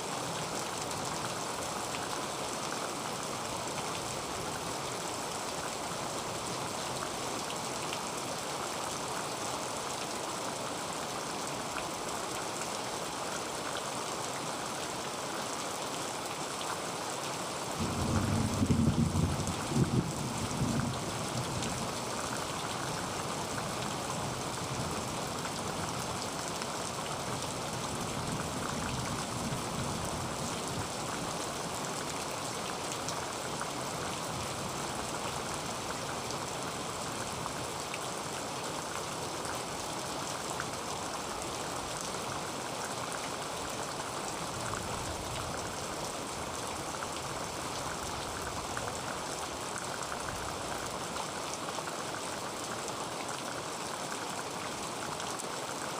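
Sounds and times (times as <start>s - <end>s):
heavy rain on a tin roof: 0.0s - 55.9s.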